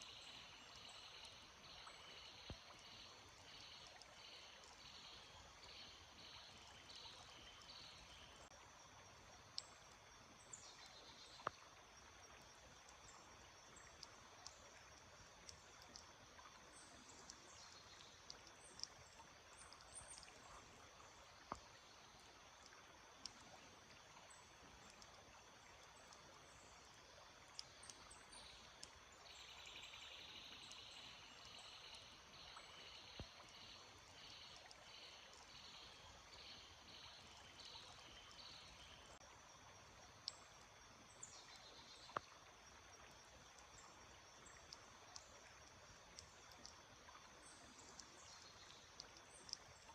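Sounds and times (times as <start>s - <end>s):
small stream trickling: 0.0s - 49.9s.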